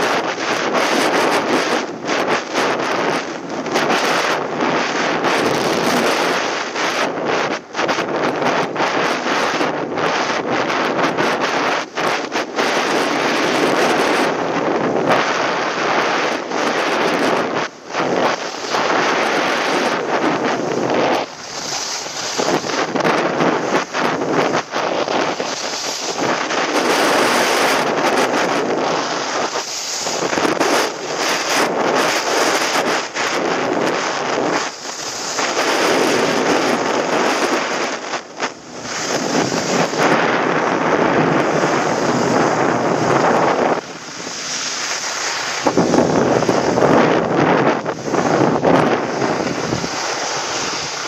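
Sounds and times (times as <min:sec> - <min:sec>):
skis sliding on snow: 0:00.0 - 0:51.0
wind on microphone: 0:00.0 - 0:51.0.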